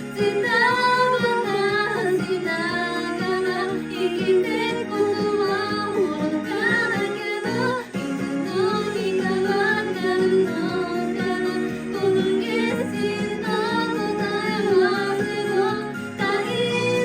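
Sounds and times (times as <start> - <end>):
karaoke backing track: 0.0 - 17.0
woman singing: 0.0 - 17.0.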